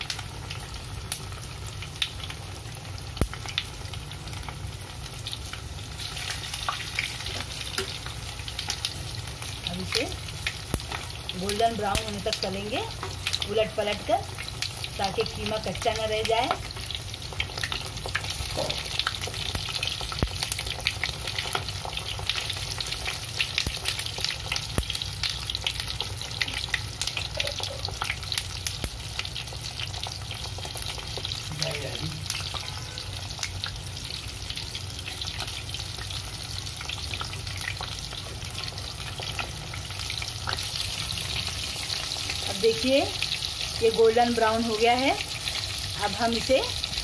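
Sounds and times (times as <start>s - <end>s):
patties sizzling in hot oil: 0.0s - 47.0s.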